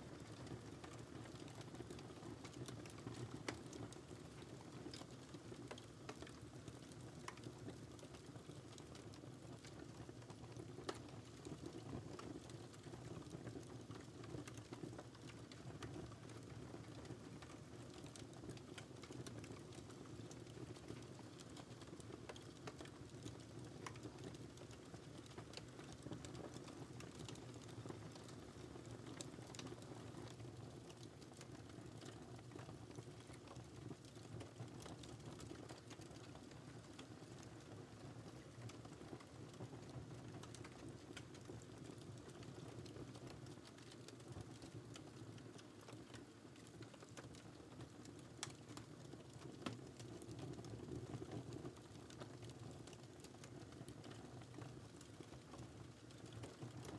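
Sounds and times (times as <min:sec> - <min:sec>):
wood fire crackling: 0:00.1 - 0:56.9.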